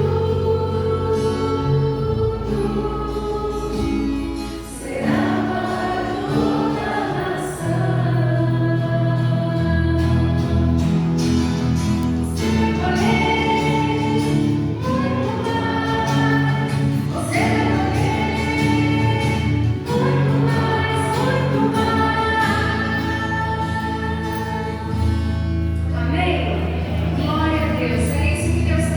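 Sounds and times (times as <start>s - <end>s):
gospel choir singing: 0.0s - 27.4s.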